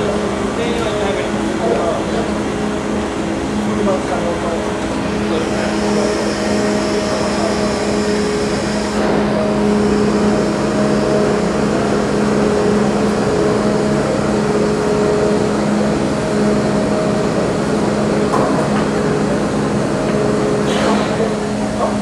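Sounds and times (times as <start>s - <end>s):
loud machinery drone: 0.0s - 22.0s.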